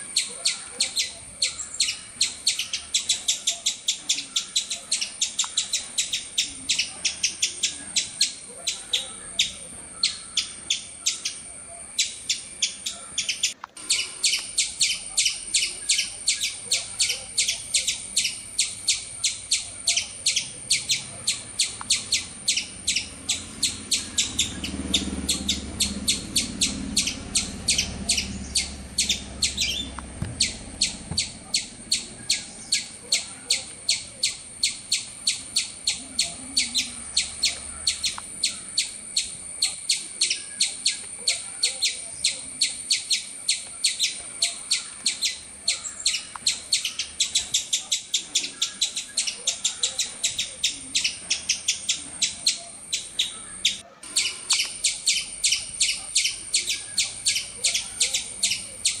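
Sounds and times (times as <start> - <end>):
low murmur: 0.0 - 59.0
small bird chirping: 0.0 - 59.0.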